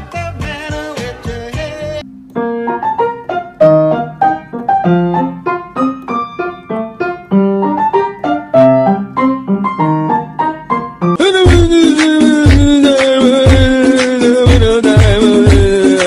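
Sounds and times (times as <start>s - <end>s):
piano melody: 2.0s - 16.0s.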